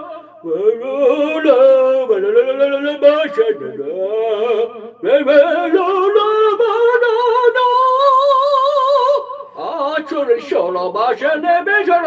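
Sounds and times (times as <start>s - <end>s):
man singing operatically: 0.0s - 12.0s.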